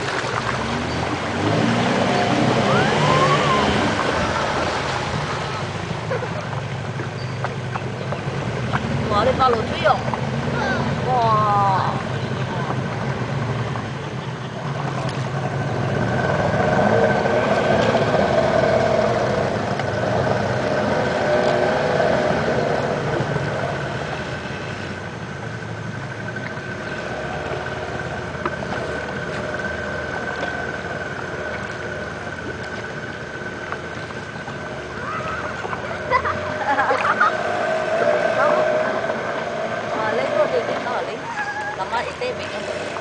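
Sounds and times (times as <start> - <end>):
outboard motor humming: 0.0 - 43.0.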